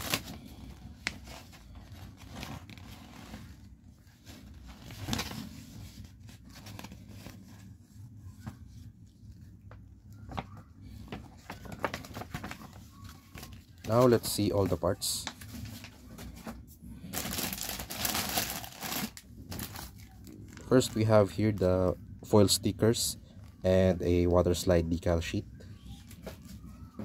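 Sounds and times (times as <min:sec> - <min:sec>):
paper pages rustling: 0:00.0 - 0:21.6.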